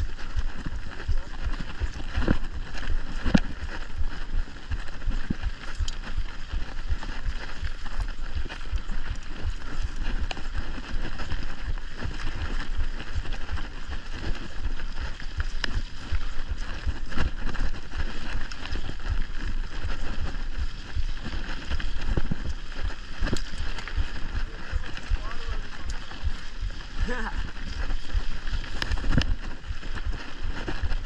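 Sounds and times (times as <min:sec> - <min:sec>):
bike rattling: 0:00.0 - 0:31.0
wind buffeting microphone: 0:00.0 - 0:31.0
tyres crunching over dirt: 0:00.1 - 0:31.0.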